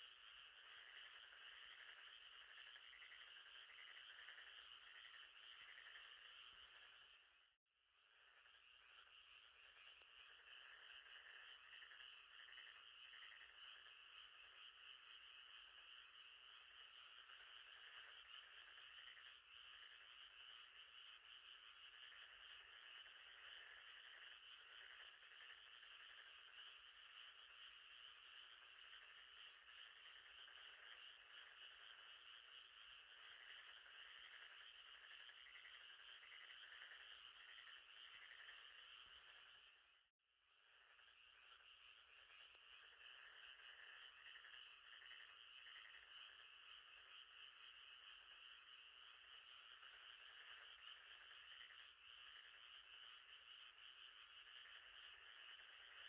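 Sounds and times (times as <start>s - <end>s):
frogs chorus: 0.0s - 56.0s.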